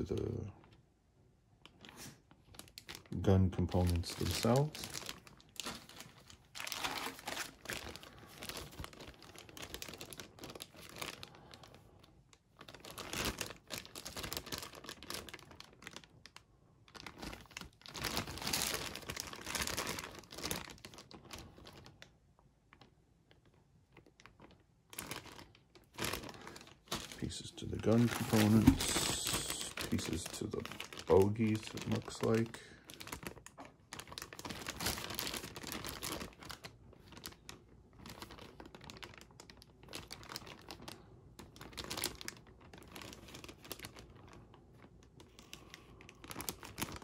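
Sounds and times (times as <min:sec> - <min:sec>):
plastic bags crinkling: 0:01.6 - 0:22.1, 0:22.7 - 0:47.0.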